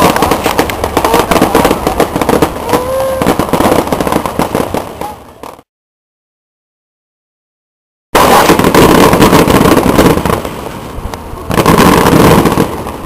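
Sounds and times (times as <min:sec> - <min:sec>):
fireworks crackling: 0:00.0 - 0:05.7, 0:08.2 - 0:13.0.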